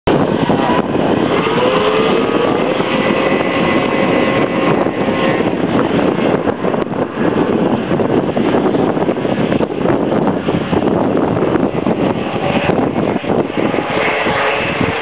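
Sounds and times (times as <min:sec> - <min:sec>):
wind buffeting microphone: 0:00.0 - 0:15.0
snowmobile engines accelerating: 0:00.1 - 0:15.0.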